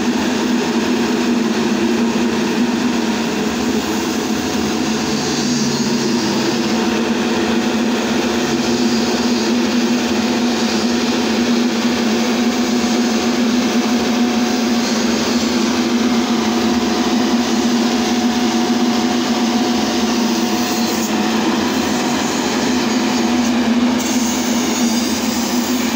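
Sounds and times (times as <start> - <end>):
large fan blowing water mist: 0.0 - 25.9.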